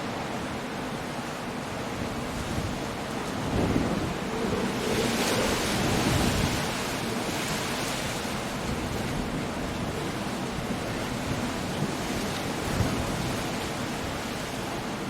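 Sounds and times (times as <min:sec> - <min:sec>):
gusting wind: 0:00.0 - 0:15.0
storm surf breaking on rocks: 0:00.2 - 0:15.0.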